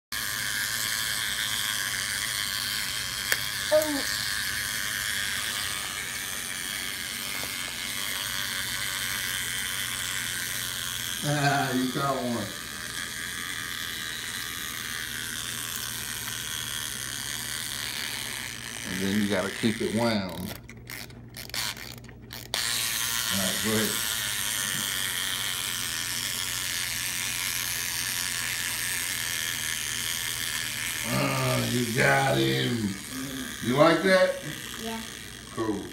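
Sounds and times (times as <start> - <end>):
toy motor whirring: 0.1 - 35.9.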